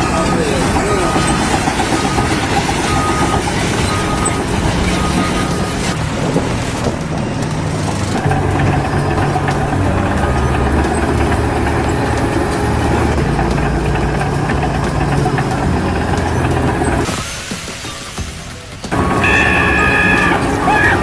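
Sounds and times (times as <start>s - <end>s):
large engine running: 0.0s - 21.0s.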